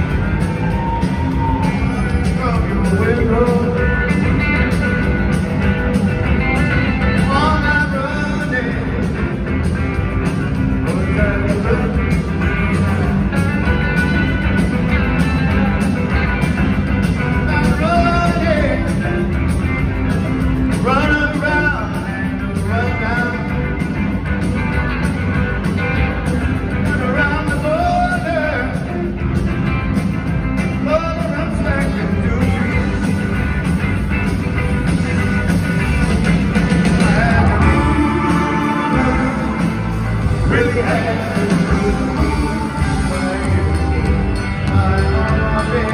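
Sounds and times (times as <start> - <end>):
live rock band: 0.0 - 45.9
sliding lead guitar line: 0.0 - 45.9.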